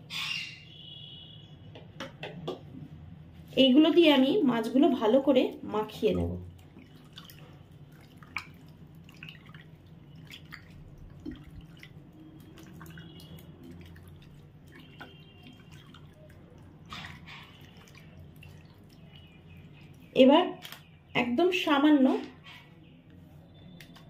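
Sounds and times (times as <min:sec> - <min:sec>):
low steady hum: 0:02.5 - 0:24.0
wet squelches of hand mixing fish: 0:04.6 - 0:24.0.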